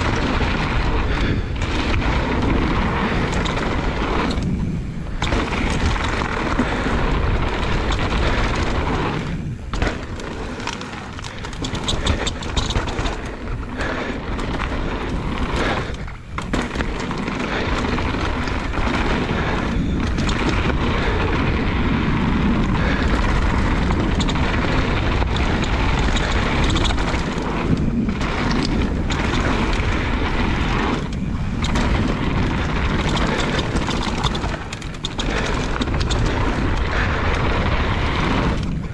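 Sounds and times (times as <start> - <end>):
bike tyres rolling over dirt: 0.0 - 38.9
wind buffeting microphone: 0.0 - 38.9.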